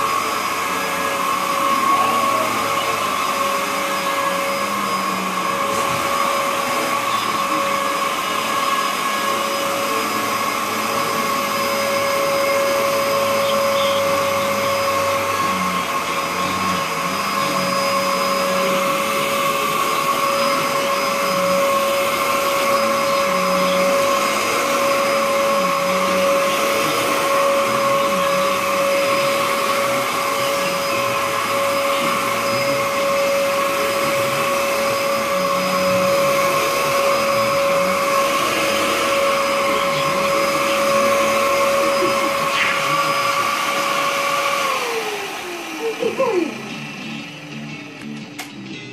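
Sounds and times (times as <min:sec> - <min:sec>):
vacuum cleaner motor whining: 0:00.0 - 0:48.9.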